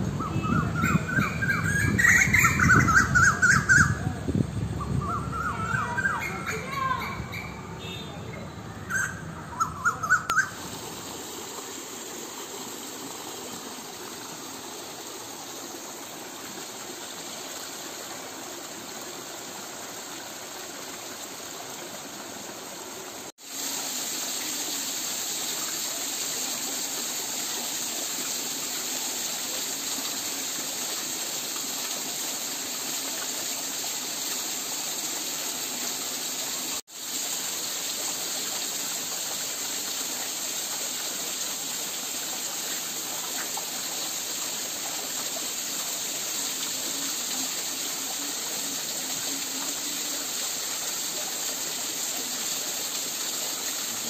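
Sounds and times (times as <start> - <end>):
waterfall splashing into pool: 10.0 - 54.0.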